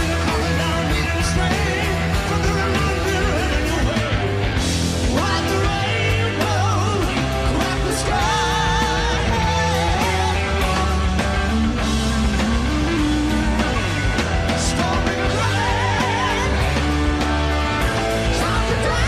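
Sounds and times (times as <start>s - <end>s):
hard rock band playing: 0.0s - 19.0s.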